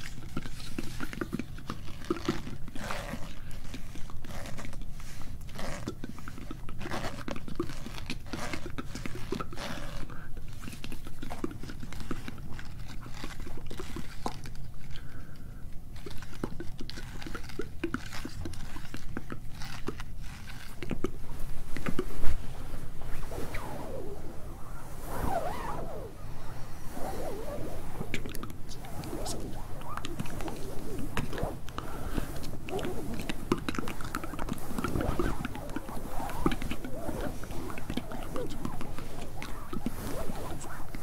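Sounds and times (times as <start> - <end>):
fingers scratching microphone: 0.0 - 14.9, 15.9 - 41.0
soft whispering: 0.0 - 41.0.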